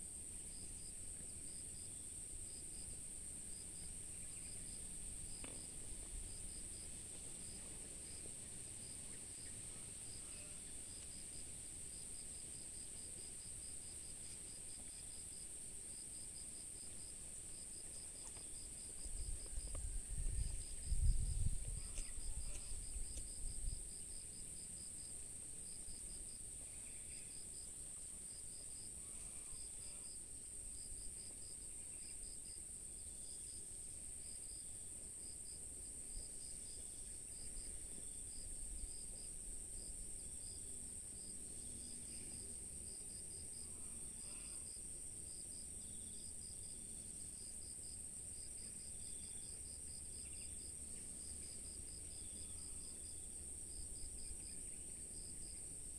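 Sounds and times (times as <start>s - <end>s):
cricket chirping: 0.0s - 55.9s
insects droning: 0.0s - 55.9s.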